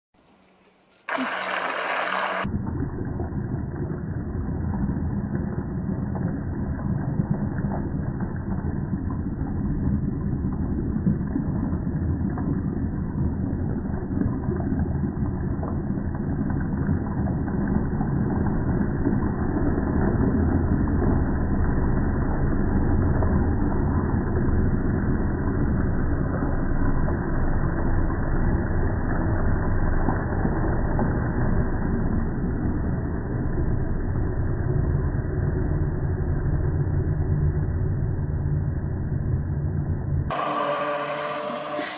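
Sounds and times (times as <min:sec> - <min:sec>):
engine running with low drone: 0:02.4 - 0:41.9.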